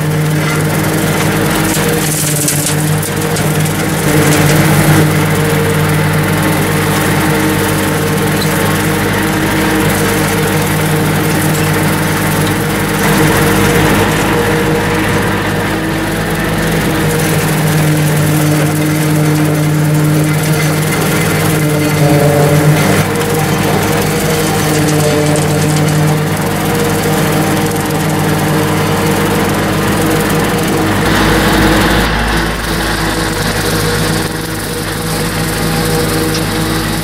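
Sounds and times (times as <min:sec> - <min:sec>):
rotary mower cutting grass: 0:00.0 - 0:37.0
tractor diesel engine under load: 0:00.0 - 0:37.0.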